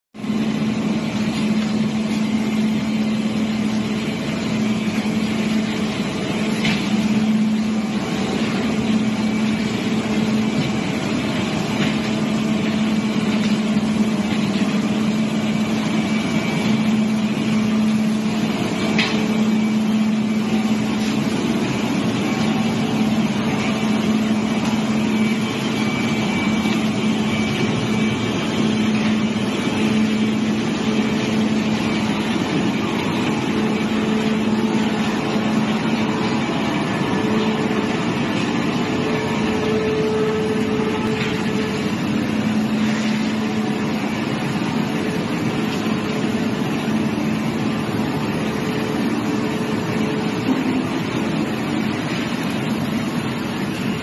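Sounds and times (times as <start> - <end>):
plastic shredder drone: 0.2 - 54.0.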